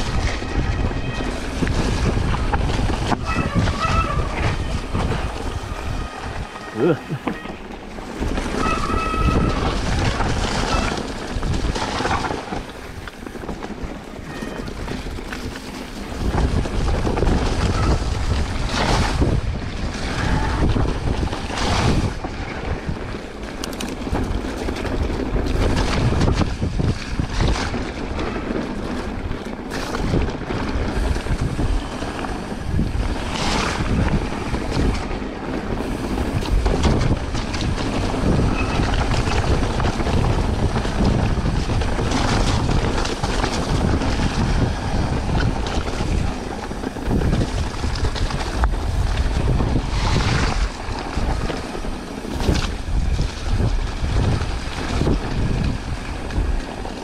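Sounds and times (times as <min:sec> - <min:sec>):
tyres rumbling over rough ground: 0:00.0 - 0:57.0
wind buffeting microphone: 0:00.0 - 0:57.0
bike knocks and rattles: 0:07.2 - 0:57.0.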